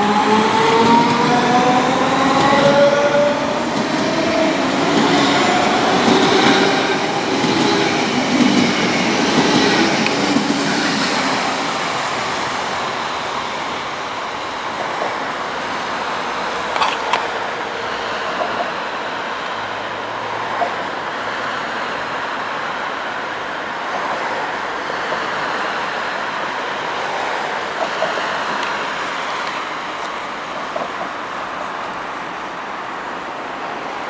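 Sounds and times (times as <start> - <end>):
railway station ambience: 0.0 - 34.0
road traffic rumble: 0.0 - 34.0.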